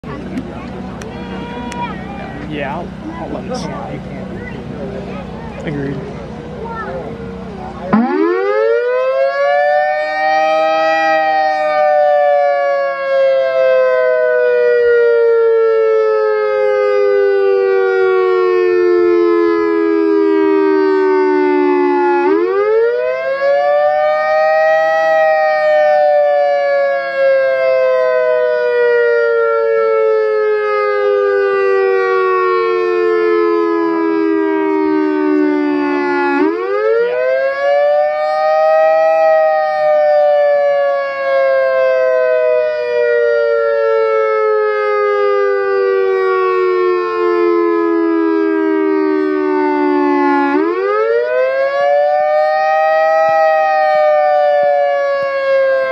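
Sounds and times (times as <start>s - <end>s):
electronic siren wailing: 6.8s - 55.9s.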